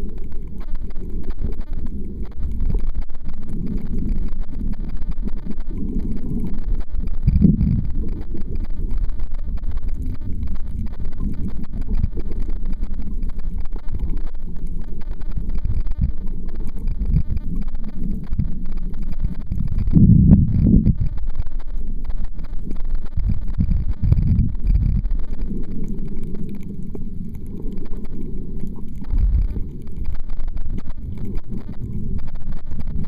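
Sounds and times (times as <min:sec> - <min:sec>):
faint clicks: 0:00.0 - 0:33.0
muffled underwater rumble: 0:00.0 - 0:33.0.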